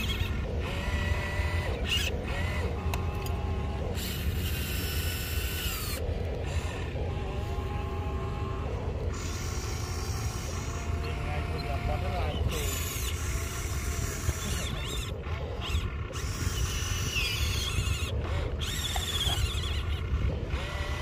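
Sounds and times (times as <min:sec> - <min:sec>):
toy excavator motors whining: 0:00.0 - 0:21.0.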